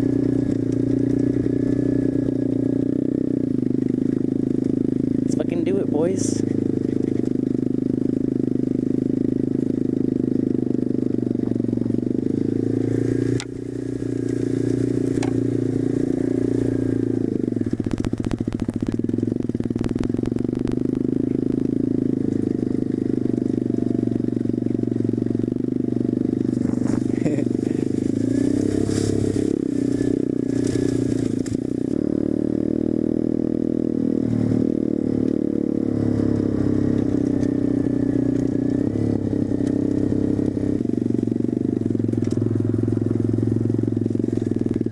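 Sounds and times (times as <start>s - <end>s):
small motorbike engine revving: 0.0s - 44.9s.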